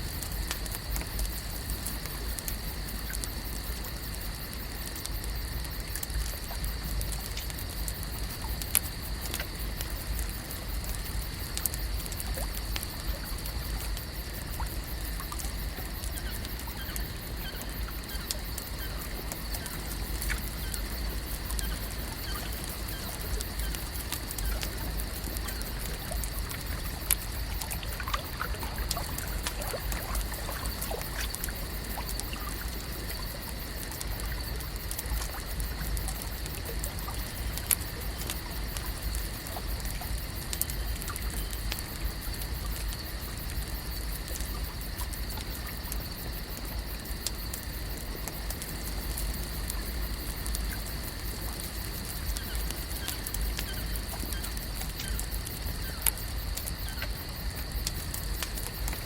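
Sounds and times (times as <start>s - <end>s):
water lapping and trickling: 0.0s - 59.0s
small clicks and pops: 0.1s - 59.0s.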